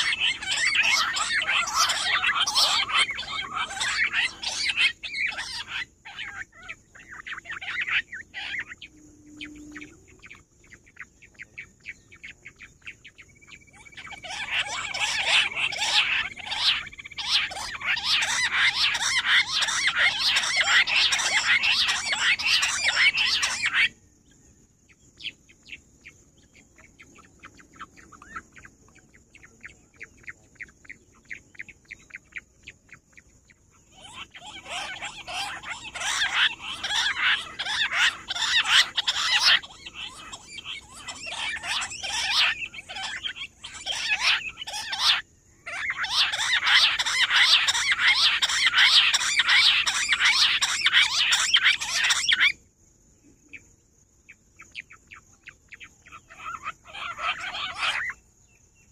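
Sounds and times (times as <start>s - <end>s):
quail chirping: 0.0s - 52.6s, 54.3s - 58.9s.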